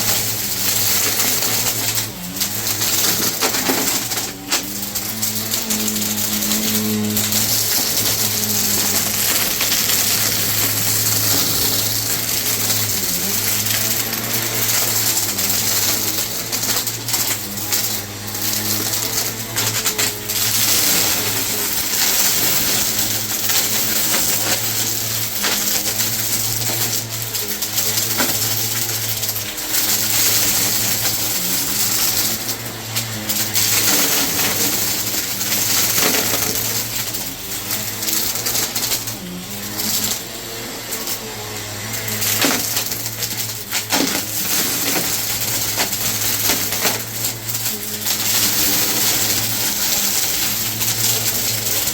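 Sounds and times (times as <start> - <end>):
debris clattering through vacuum: 0.0 - 51.9
vacuum cleaner running: 0.0 - 51.9.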